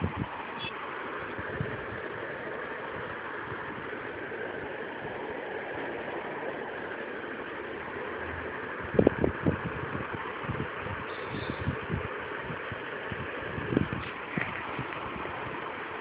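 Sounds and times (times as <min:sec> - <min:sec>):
hiss-like hum: 0:00.0 - 0:16.0.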